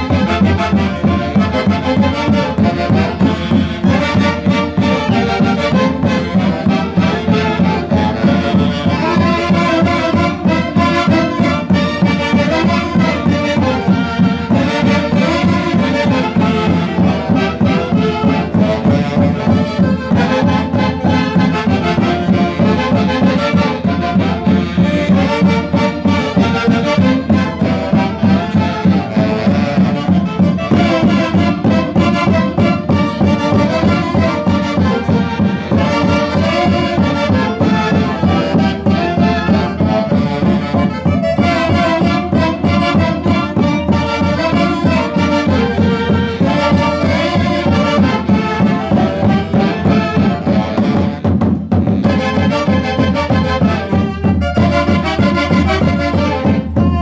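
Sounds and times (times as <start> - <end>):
folk band music: 0.0 - 57.0.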